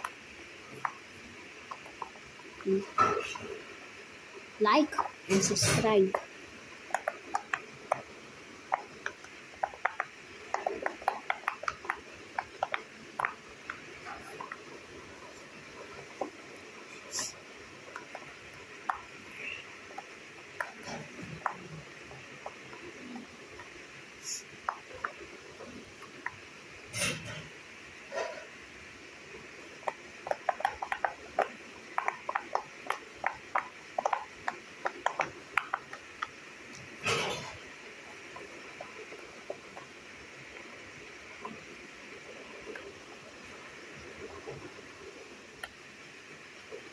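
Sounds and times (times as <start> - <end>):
fidget toy bubbles popping: 0.0 - 3.7, 4.7 - 27.5, 29.3 - 45.8.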